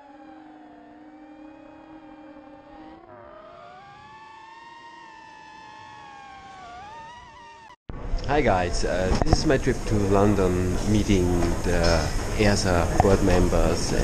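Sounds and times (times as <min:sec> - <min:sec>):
quadcopter motors whining: 0:00.0 - 0:07.8, 0:08.6 - 0:14.0.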